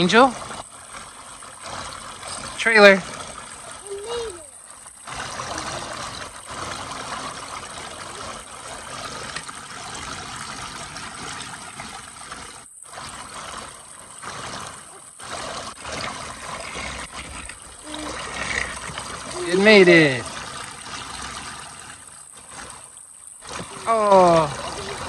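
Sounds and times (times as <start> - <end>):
water trickling into pool: 0.0 - 25.0.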